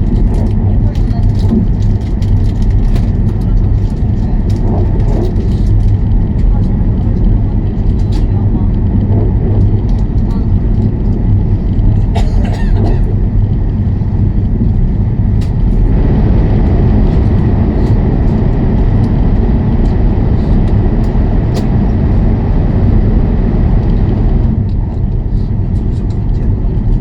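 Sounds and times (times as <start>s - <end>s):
high-speed train rumbling: 0.0s - 27.0s.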